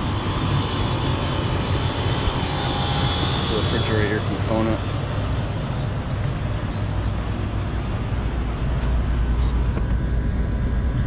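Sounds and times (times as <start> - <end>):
compressor hum: 0.0 - 11.0.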